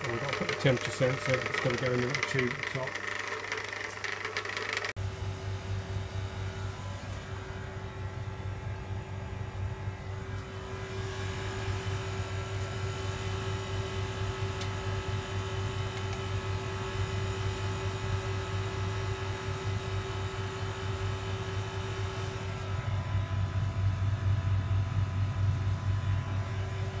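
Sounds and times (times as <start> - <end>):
heat pump humming: 0.0 - 27.0.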